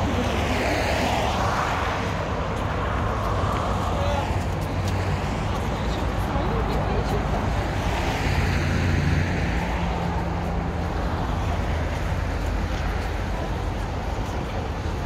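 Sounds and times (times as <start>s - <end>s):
city traffic noise: 0.0s - 15.0s
vehicle passing: 0.0s - 15.0s.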